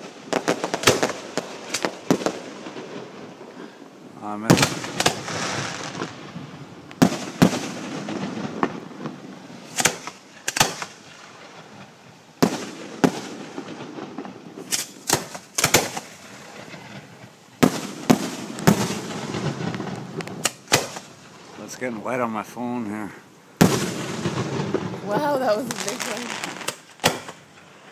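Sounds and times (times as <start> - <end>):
fireworks bursting with bangs: 0.0 - 27.9.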